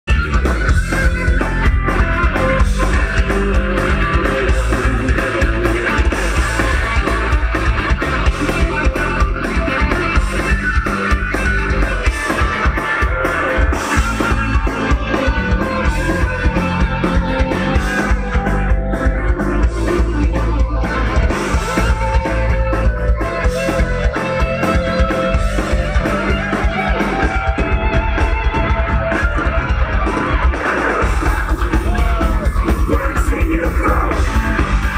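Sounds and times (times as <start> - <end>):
bass guitar: 0.0 - 34.9
drum kit: 0.1 - 34.9
electric guitars: 0.1 - 34.9.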